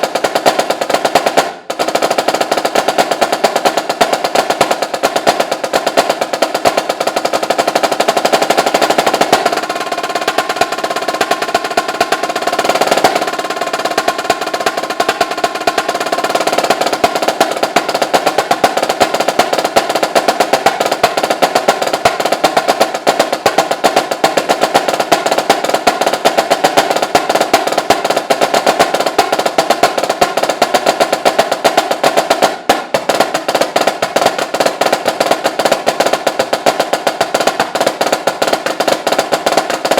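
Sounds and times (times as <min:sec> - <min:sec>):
snare drum rolls: 0:00.0 - 0:39.9.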